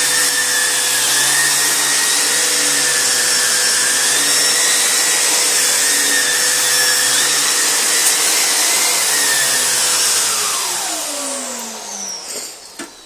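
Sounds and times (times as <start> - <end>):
vacuum cleaner motor whining: 0.0 - 13.0
vacuum motor winding down: 0.0 - 13.0.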